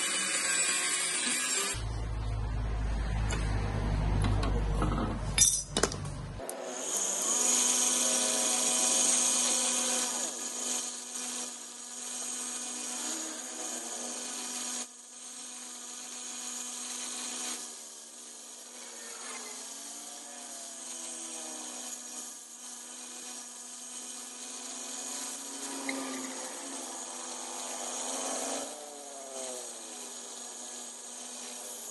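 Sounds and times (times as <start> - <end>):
steel grinding on wheel: 0.0 - 1.8, 6.8 - 31.9
bench grinder humming: 0.0 - 31.9.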